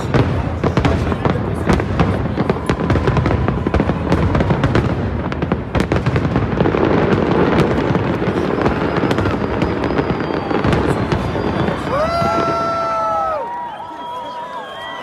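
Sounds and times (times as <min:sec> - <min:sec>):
fireworks cracking and crackling: 0:00.0 - 0:15.0.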